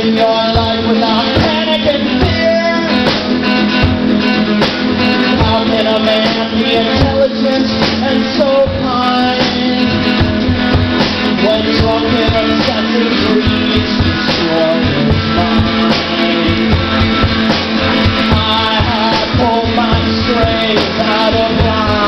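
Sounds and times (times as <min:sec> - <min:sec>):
drum kit hits: 0:00.0 - 0:22.0
live rock band playing: 0:00.0 - 0:22.0.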